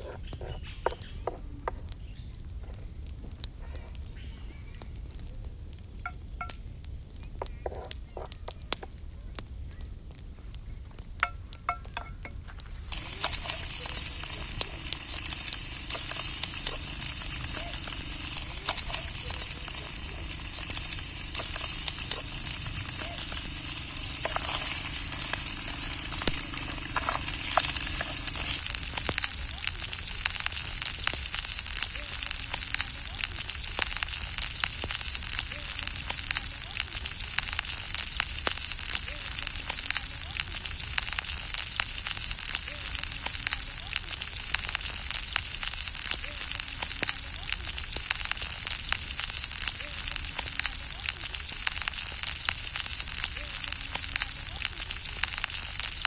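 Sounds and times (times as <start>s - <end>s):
food sizzling in hot oil: 10.6s - 56.0s.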